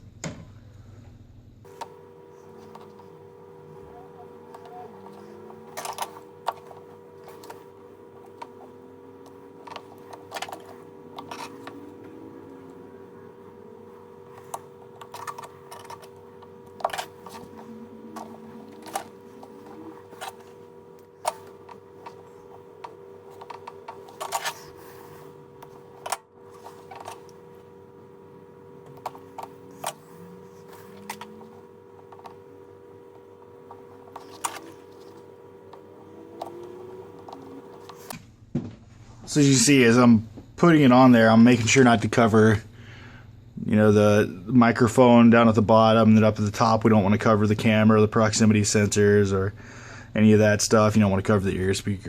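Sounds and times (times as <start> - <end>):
steady electrical hum: 0.0 - 52.0.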